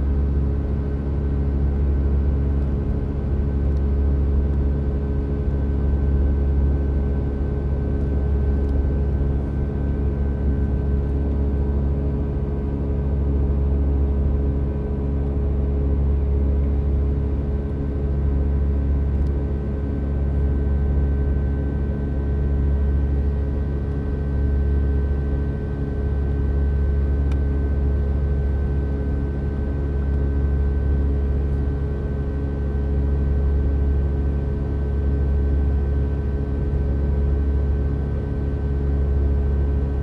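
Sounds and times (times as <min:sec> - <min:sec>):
jet engine cabin rumble: 0:00.0 - 0:40.0.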